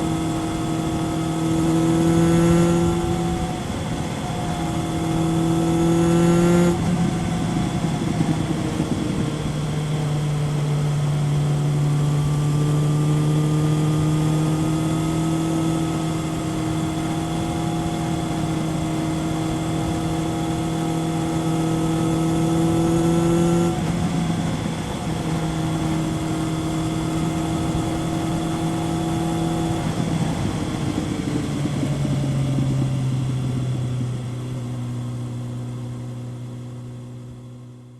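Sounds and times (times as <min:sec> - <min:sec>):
motorcycle engine while riding: 0:00.0 - 0:37.9.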